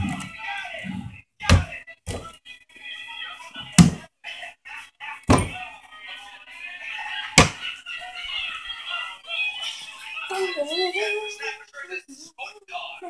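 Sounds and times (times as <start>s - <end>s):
background voices: 0.0s - 13.0s
music: 0.0s - 13.0s.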